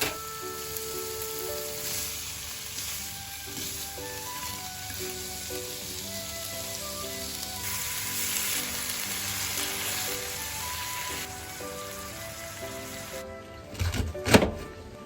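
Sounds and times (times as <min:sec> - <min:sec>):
food sizzling in a frying pan: 0:00.0 - 0:13.2
light background music: 0:00.0 - 0:15.0.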